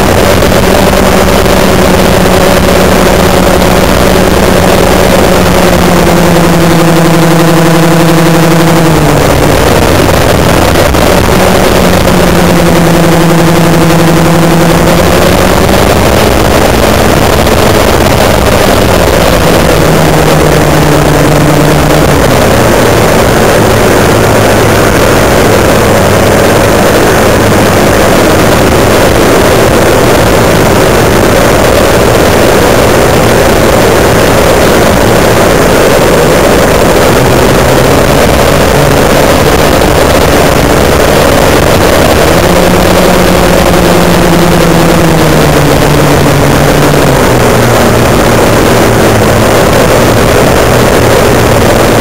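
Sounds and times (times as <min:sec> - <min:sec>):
electric motors and propellers droning: 0:00.0 - 0:52.0
rushing air: 0:00.0 - 0:52.0.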